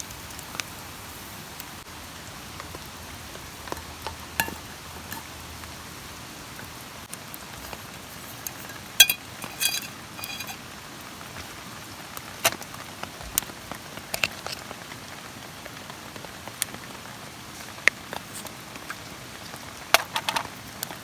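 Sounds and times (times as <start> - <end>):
rain pattering on a tarp: 0.0 - 9.0, 10.0 - 21.0.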